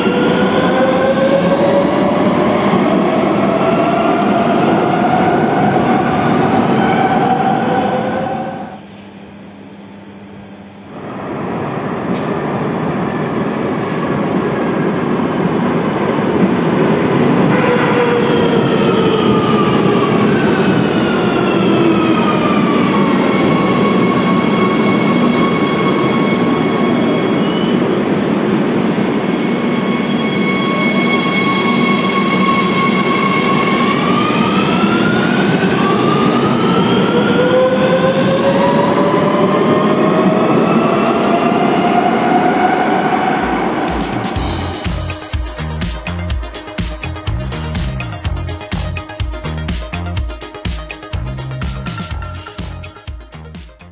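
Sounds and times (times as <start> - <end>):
train wheels rumbling on rail: 0.0 - 8.8, 11.0 - 53.5.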